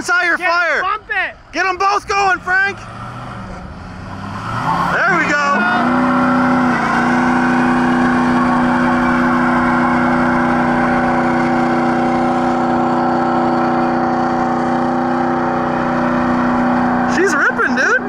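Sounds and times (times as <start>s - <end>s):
diesel engine revving high: 1.4s - 18.0s
tires spinning: 1.4s - 18.0s.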